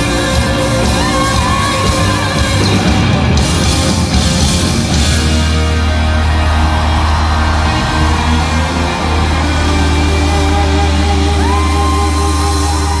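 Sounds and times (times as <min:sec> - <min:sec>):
electric guitar lead: 0:00.0 - 0:13.0
live rock band: 0:00.0 - 0:13.0.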